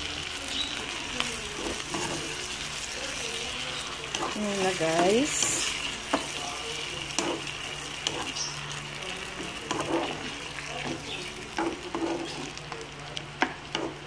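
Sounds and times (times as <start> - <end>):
chicken sizzling in a frying pan: 0.0 - 14.0
spatula scraping a pan: 1.4 - 12.6, 13.4 - 14.0.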